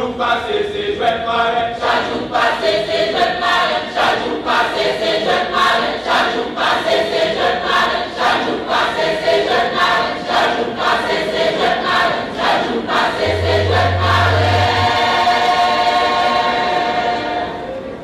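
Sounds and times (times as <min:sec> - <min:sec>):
church choir singing: 0:01.7 - 0:17.7.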